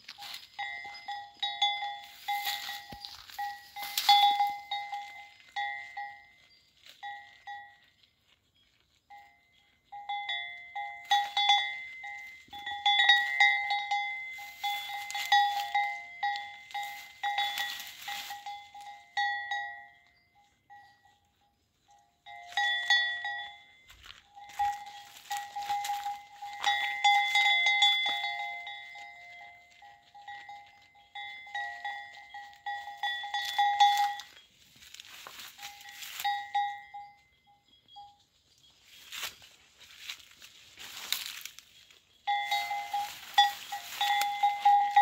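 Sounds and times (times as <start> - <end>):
leaves rustling: 0.0 - 19.2, 21.9 - 36.8, 38.7 - 45.0
goat collar bell jingling: 0.0 - 45.0.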